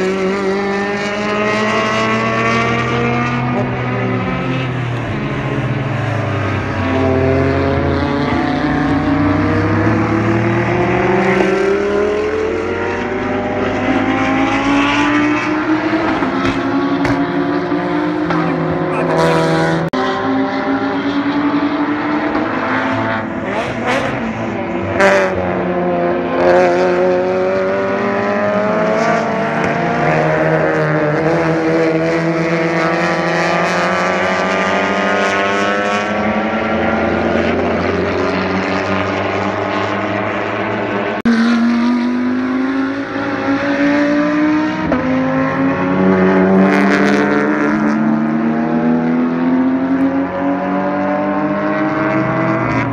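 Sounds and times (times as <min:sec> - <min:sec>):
racing car engines: 0:00.0 - 0:52.9.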